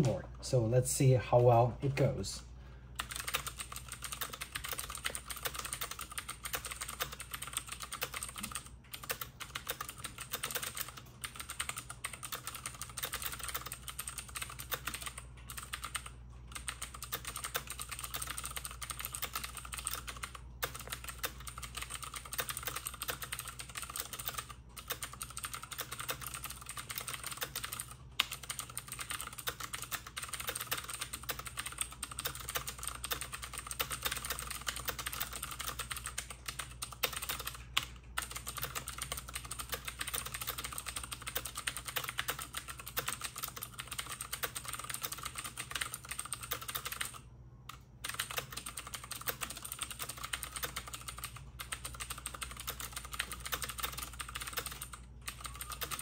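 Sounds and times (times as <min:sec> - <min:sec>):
clicky mechanical keyboard typing: 0:03.0 - 0:56.0.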